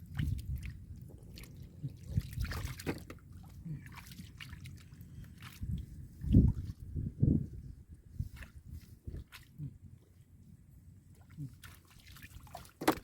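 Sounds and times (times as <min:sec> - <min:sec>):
muddy water sloshing and splashing: 0:00.0 - 0:13.0.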